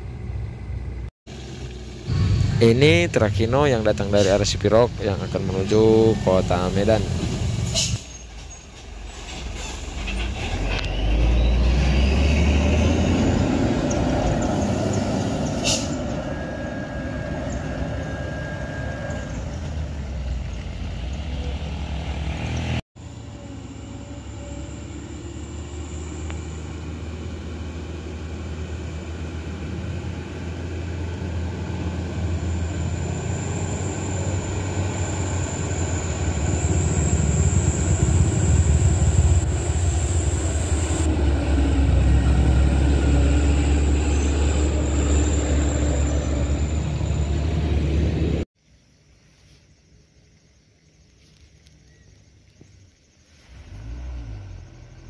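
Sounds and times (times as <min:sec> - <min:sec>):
truck diesel engine passing: 0:00.0 - 0:08.1, 0:08.8 - 0:48.4, 0:53.4 - 0:55.0
truck diesel engine approaching: 0:00.0 - 0:48.5, 0:53.4 - 0:55.0.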